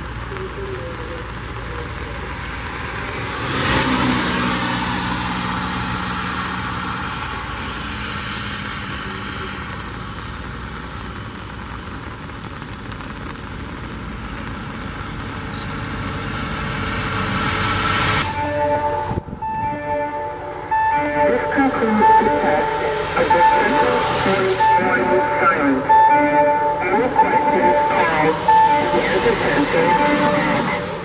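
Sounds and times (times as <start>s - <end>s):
tyres hissing on wet road: 0.0s - 19.4s, 20.2s - 31.0s.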